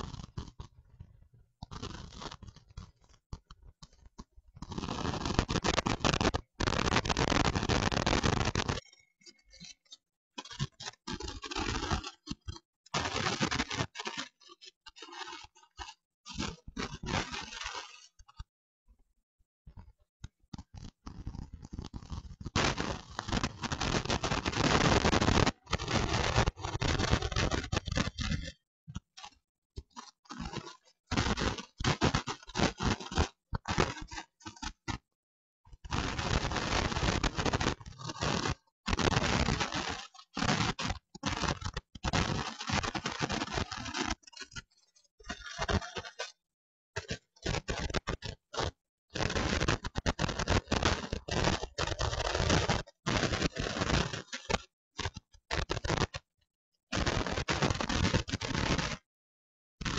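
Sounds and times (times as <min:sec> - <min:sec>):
harsh crackling noise: 0:00.1 - 0:00.9, 0:01.6 - 0:18.5, 0:20.2 - 0:35.1, 0:35.8 - 0:59.1.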